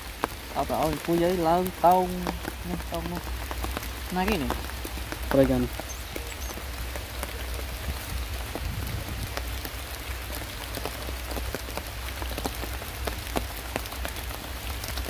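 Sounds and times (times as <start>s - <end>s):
rain on an umbrella: 0.0s - 15.0s.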